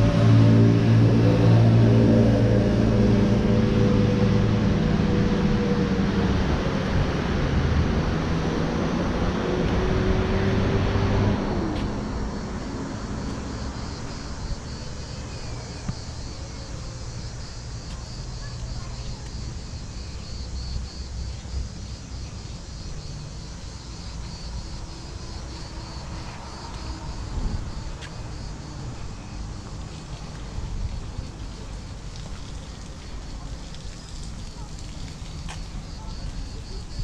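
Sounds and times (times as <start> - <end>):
vehicle engine humming: 0.0 - 36.8.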